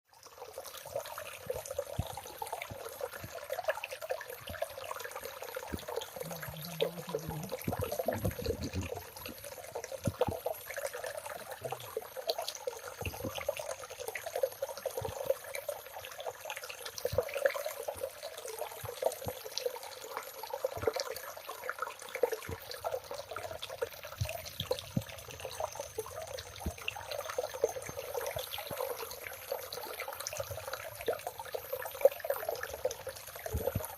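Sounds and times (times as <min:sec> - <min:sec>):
stream trickling and splashing: 0:00.1 - 0:33.9.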